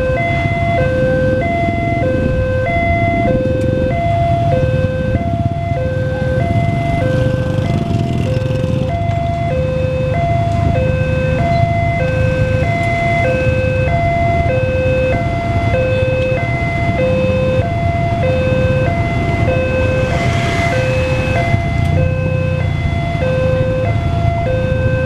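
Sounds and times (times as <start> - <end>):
level crossing two-tone alarm: 0.0 - 25.0
motorcycle engines idling: 2.6 - 24.2.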